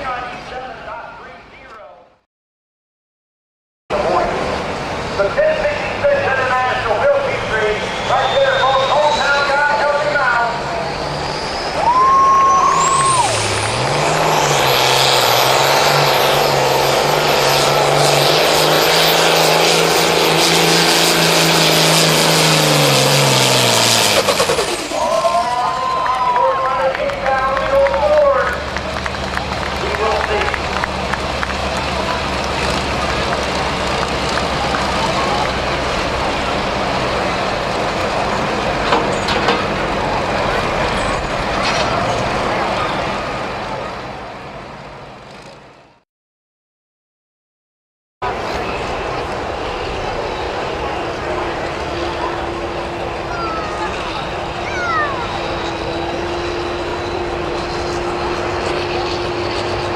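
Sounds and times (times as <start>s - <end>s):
diesel engine running flat out: 3.9s - 46.0s, 48.2s - 59.9s.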